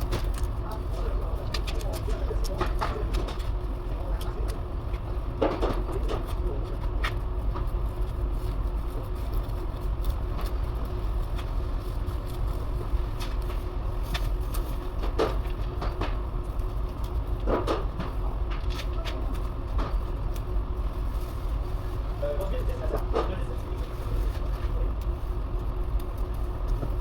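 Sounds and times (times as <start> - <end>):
low workshop rumble: 0.0 - 27.0.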